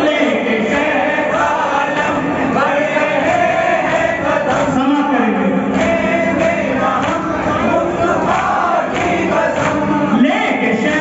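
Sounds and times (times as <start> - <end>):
man singing into a microphone: 0.0 - 11.0
men chanting: 0.0 - 11.0.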